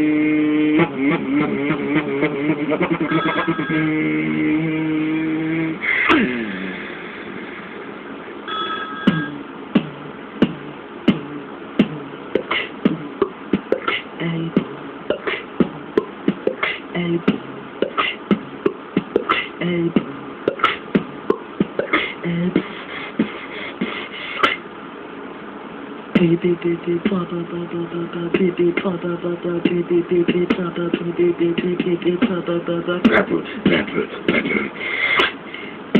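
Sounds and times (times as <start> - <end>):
beatboxing into a cupped hand: 0.0 - 7.7, 9.1 - 24.7, 26.2 - 35.7.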